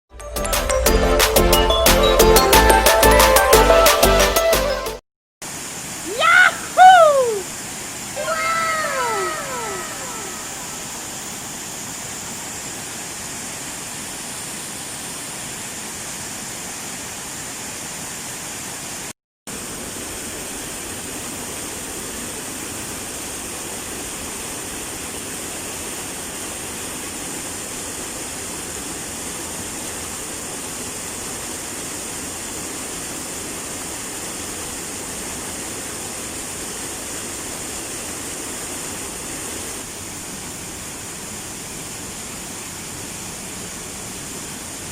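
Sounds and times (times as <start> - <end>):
flowing water rushing: 5.4 - 44.9.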